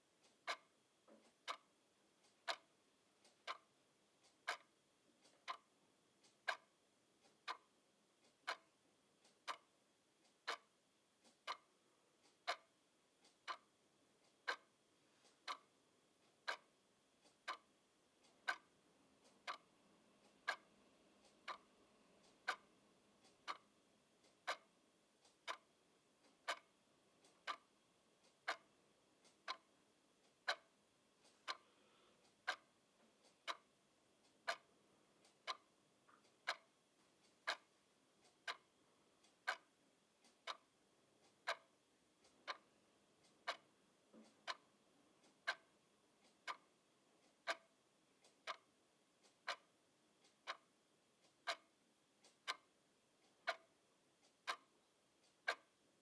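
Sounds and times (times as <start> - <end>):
clock ticking: 0.2 - 56.0.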